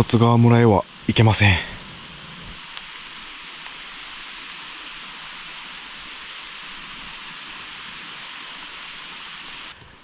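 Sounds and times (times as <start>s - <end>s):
running water hissing: 0.0s - 10.0s.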